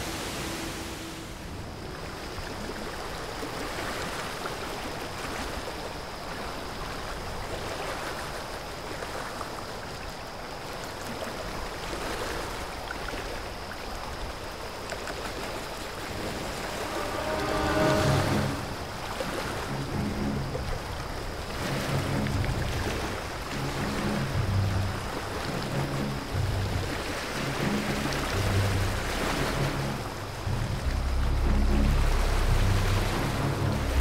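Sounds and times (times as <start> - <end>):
water lapping gently: 0.0 - 34.0.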